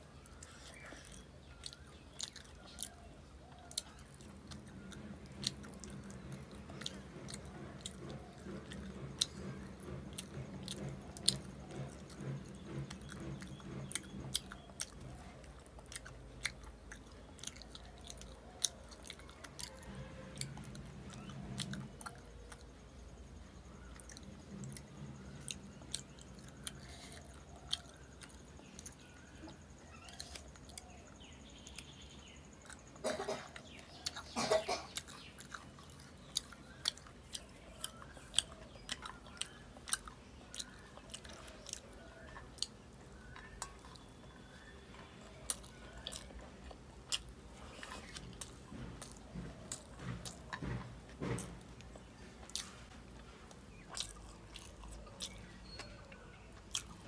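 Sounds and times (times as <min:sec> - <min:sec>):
chewing and mouth sounds: 0:00.2 - 0:22.9, 0:23.8 - 0:57.0.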